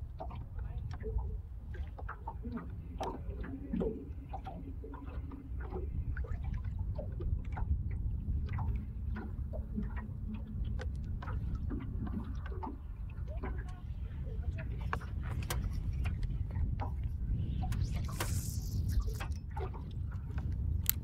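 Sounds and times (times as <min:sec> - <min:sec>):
steady low rumble: 0:00.0 - 0:21.0
water lapping against boat hull: 0:00.0 - 0:21.0.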